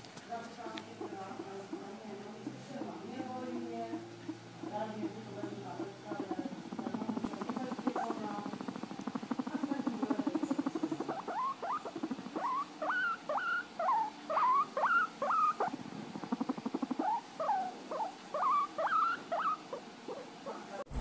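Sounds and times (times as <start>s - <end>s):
rats squeaking: 0.0s - 21.0s.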